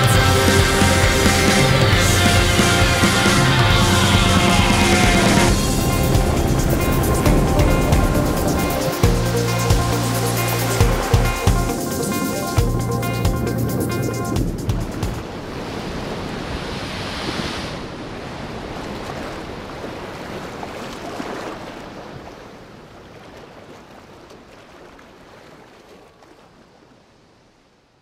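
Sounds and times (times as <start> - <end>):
ocean waves breaking: 0.0 - 27.5.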